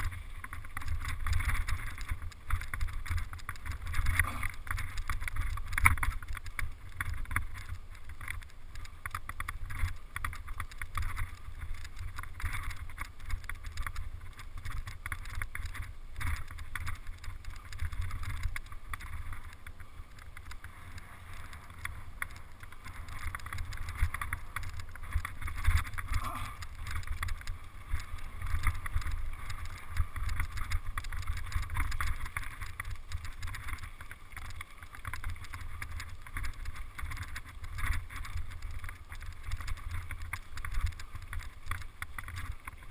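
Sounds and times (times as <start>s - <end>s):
bike tyres crunching on stony trail: 0.0s - 42.9s.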